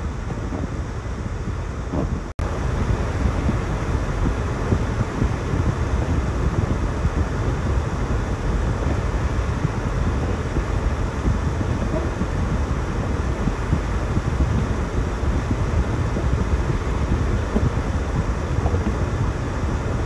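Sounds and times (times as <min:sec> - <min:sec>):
road noise: 0:00.0 - 0:20.0
wind noise: 0:00.0 - 0:20.0.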